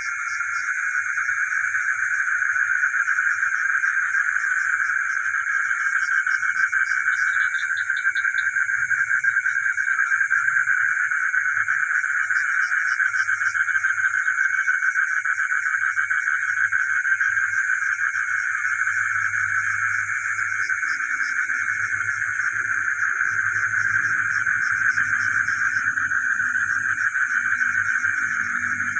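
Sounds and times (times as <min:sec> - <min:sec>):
frogs calling: 0:00.0 - 0:28.9.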